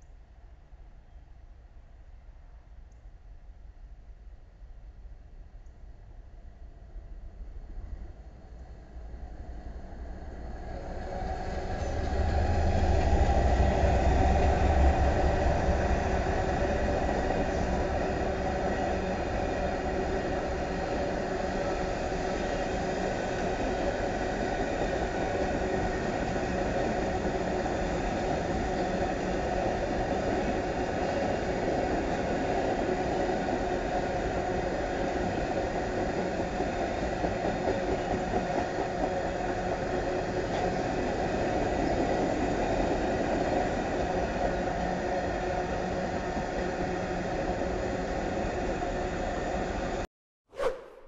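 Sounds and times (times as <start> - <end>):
diesel locomotive engine drone: 6.1 - 50.0.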